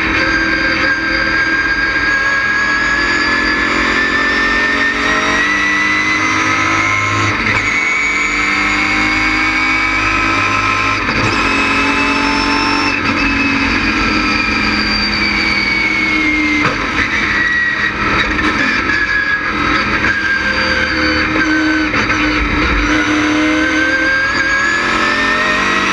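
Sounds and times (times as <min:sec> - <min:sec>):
race car engine at speed: 0:00.0 - 0:25.9.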